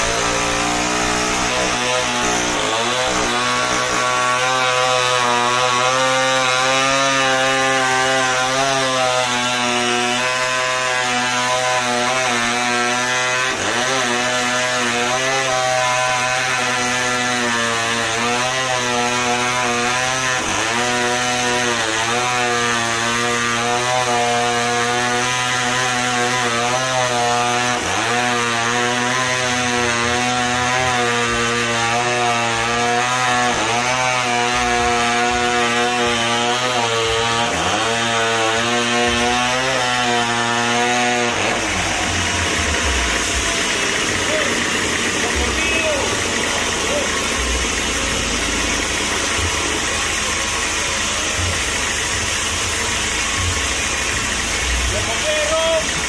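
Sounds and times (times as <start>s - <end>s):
sawmill saw cutting wood: 0.0s - 56.0s.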